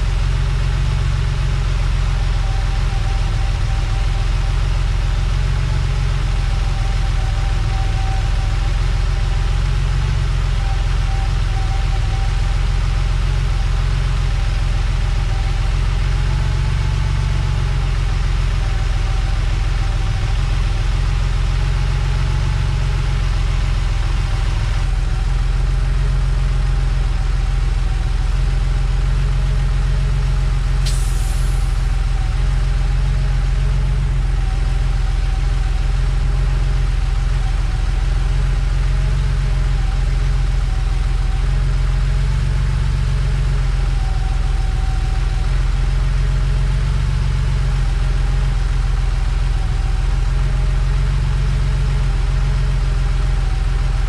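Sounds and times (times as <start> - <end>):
car engine idling: 0.0 - 54.0
steady whine: 0.0 - 54.0.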